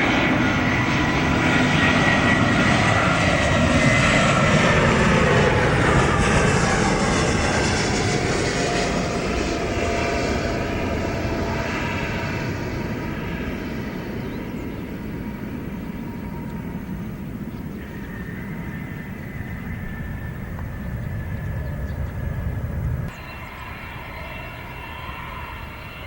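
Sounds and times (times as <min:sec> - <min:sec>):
jet engine rumble: 0:00.0 - 0:26.0.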